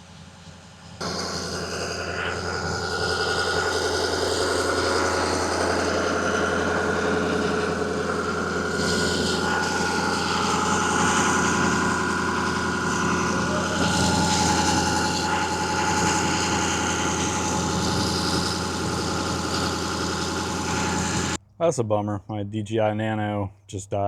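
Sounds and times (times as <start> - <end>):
diesel engine idling: 0.0 - 21.4.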